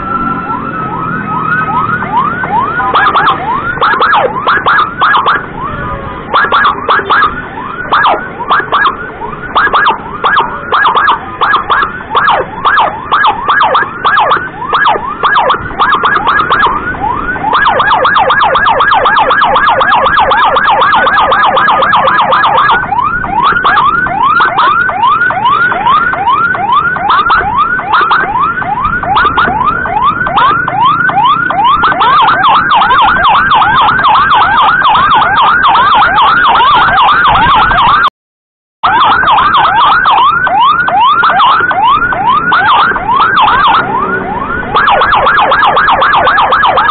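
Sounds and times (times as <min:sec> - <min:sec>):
emergency siren yelping: 0:00.0 - 0:38.1, 0:38.8 - 0:46.9.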